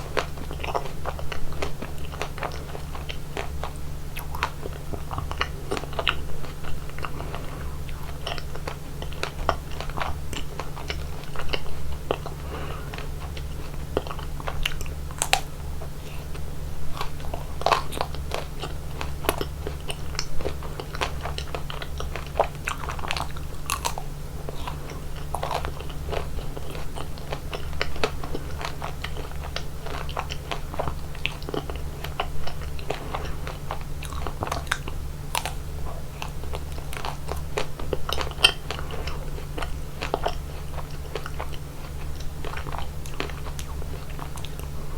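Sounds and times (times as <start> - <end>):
crunchy bites and wet chewing: 0.0 - 44.9
steady low hum: 0.0 - 44.9.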